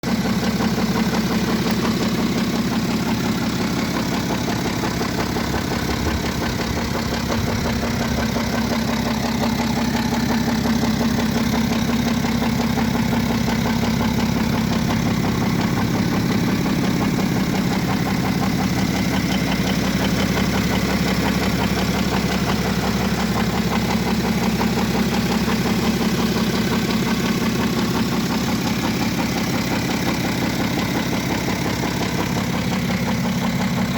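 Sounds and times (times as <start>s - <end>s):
diesel engine idling with rattle: 0.0s - 33.9s.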